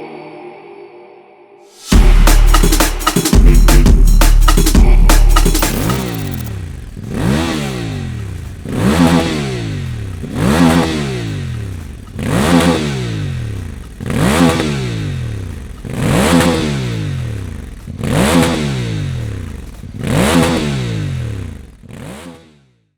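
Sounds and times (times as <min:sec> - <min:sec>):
motorcycle engine revving: 0:01.9 - 0:22.9.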